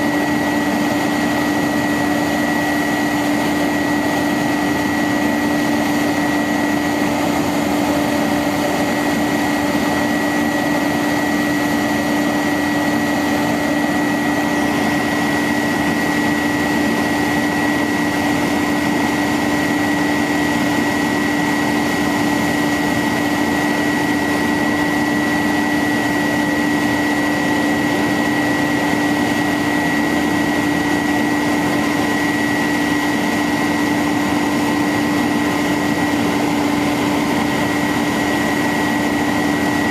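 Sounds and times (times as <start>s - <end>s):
constant whine: 0.0s - 39.9s.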